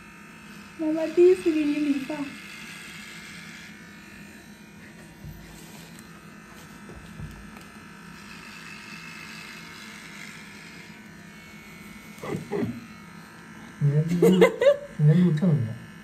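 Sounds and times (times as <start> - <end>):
hair clipper buzzing: 0.0 - 16.0.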